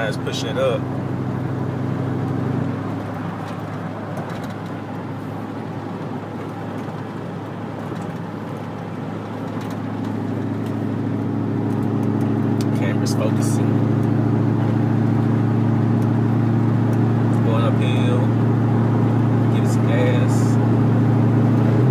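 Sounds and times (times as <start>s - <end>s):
road noise: 0.0s - 21.9s
truck exhaust drone: 0.0s - 21.9s.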